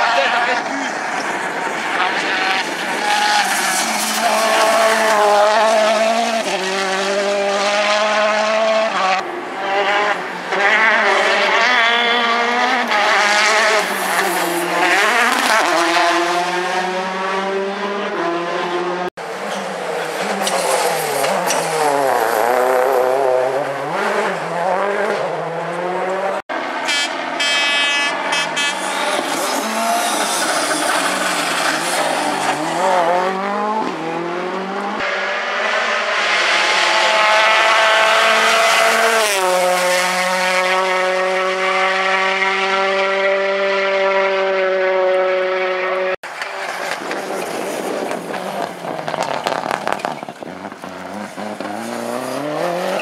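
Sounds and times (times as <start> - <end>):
rally cars at full throttle: 0.0 - 53.0.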